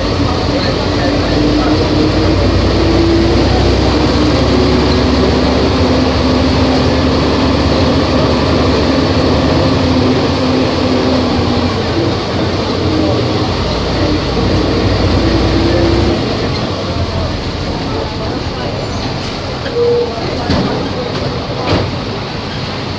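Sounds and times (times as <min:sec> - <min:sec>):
bus diesel engine running: 0:00.0 - 0:22.9.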